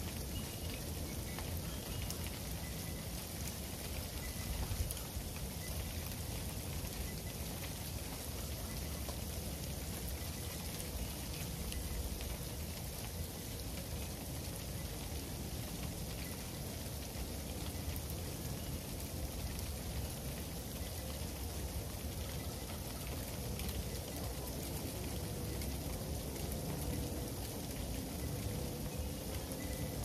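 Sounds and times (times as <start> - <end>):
freezing rain ticking on hard surfaces: 0.0 - 30.0.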